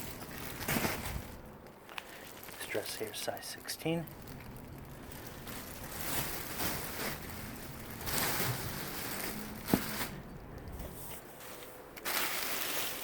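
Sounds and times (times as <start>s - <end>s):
rustling handling noise: 0.0s - 13.0s.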